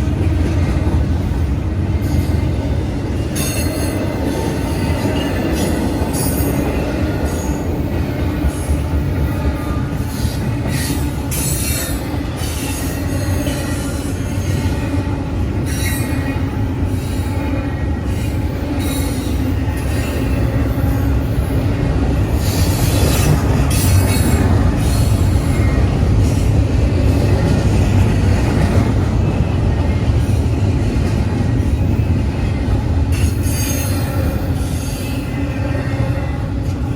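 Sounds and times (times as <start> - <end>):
rumble of rolling train cars: 0.0 - 36.9.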